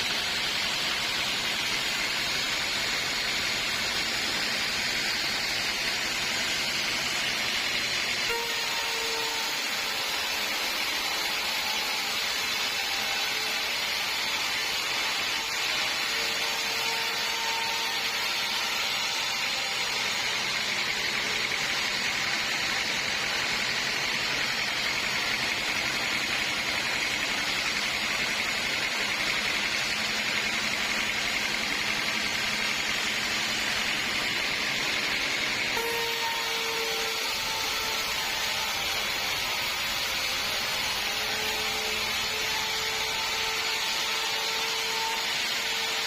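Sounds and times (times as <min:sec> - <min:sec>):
sawmill machine noise: 0:00.0 - 0:46.0.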